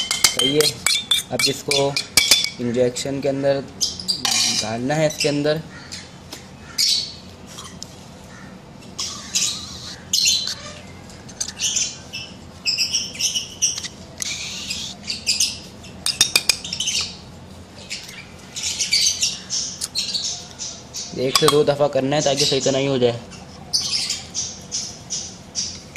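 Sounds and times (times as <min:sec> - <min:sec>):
parrots calling: 0:00.0 - 0:02.6, 0:03.8 - 0:25.9.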